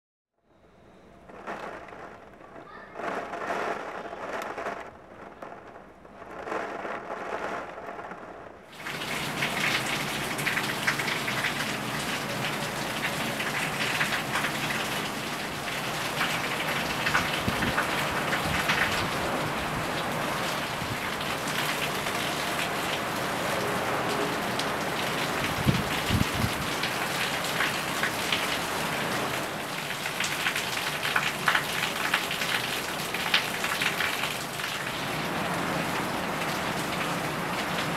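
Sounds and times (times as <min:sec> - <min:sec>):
heavy rain falling: 0:01.2 - 0:37.9.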